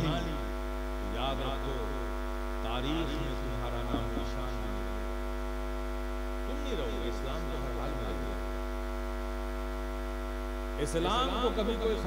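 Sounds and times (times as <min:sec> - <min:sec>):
buzzing mains hum: 0:00.0 - 0:12.0.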